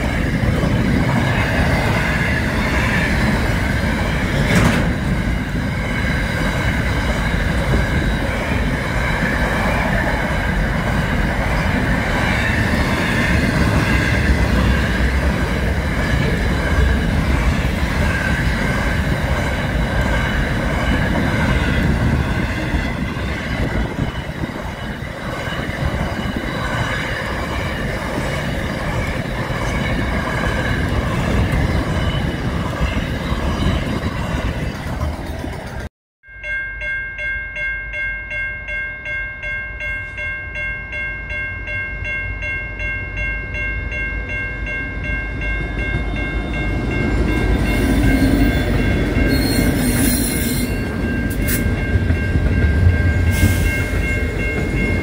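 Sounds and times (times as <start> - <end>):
freight train rumbling on rails: 0.0 - 37.0, 39.8 - 55.0.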